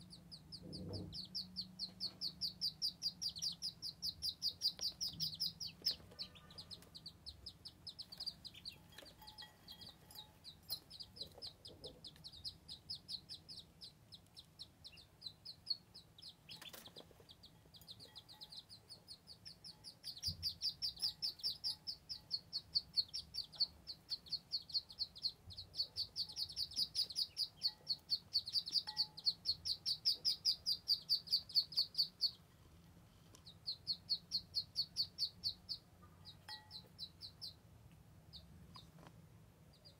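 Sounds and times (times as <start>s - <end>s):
ducklings peeping: 0.0s - 32.6s, 33.2s - 39.9s.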